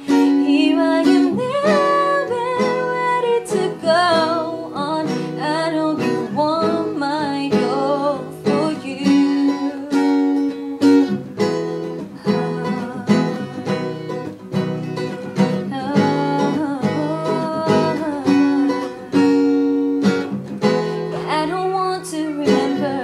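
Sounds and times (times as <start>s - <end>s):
person singing: 0.0s - 10.8s, 12.1s - 14.2s, 15.7s - 19.4s, 20.9s - 23.0s
acoustic guitar strumming: 0.0s - 23.0s.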